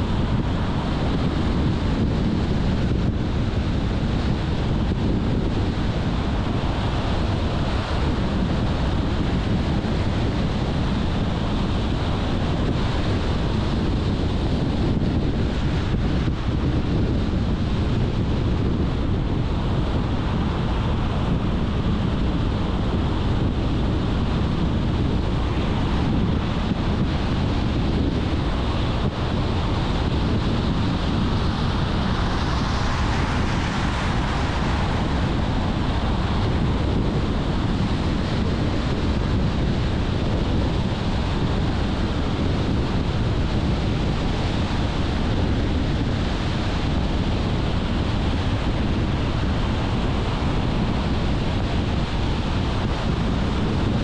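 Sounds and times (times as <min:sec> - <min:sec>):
wind noise: 0:00.0 - 0:54.0.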